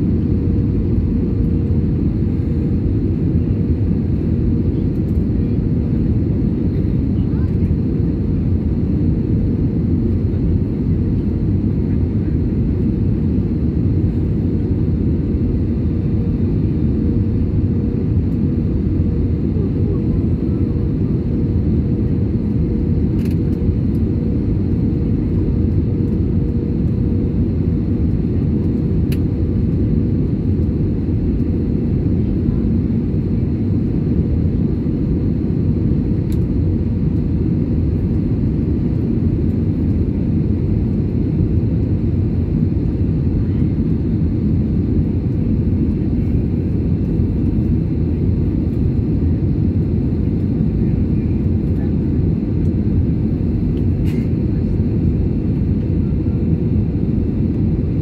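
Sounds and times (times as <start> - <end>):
jet engine cabin rumble: 0.0 - 58.0.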